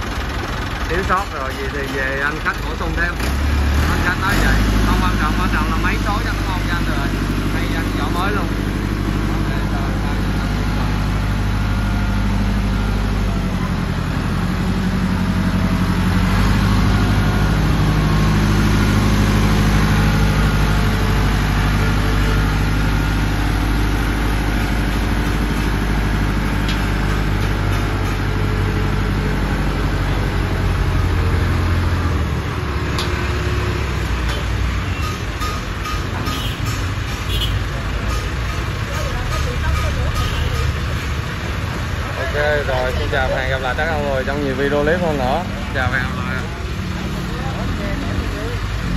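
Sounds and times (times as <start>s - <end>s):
tractor diesel engine revving: 0.0s - 48.9s.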